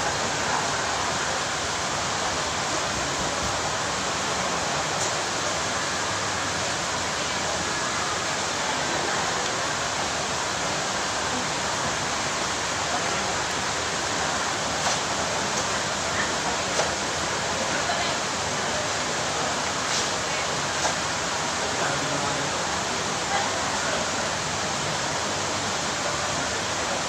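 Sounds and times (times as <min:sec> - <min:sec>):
mall atrium rushing background noise: 0:00.0 - 0:27.0.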